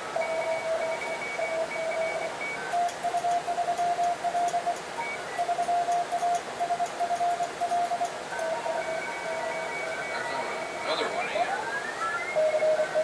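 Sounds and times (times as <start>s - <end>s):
morse code beeps: 0.2s - 13.0s.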